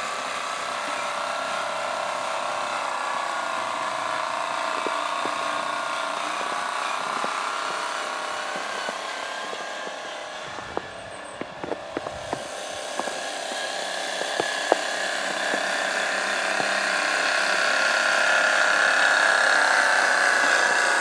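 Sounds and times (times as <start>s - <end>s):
electric motor and gearbox whining: 0.0s - 21.0s.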